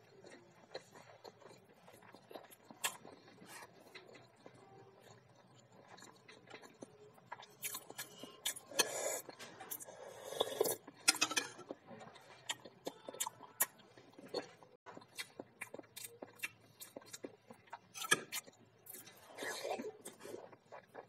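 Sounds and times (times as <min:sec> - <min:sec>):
chewing and mouth smacks: 0:00.0 - 0:09.8, 0:10.6 - 0:21.0.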